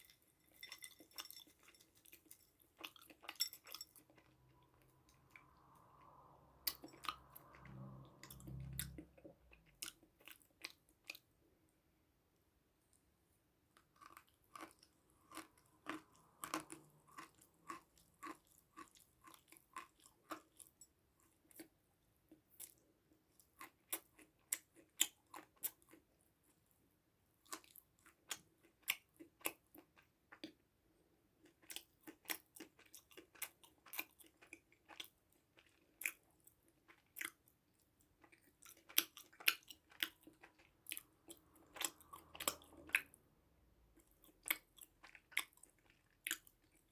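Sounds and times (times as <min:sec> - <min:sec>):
person chewing and crunching food: 0:00.0 - 0:11.5, 0:13.6 - 0:46.9.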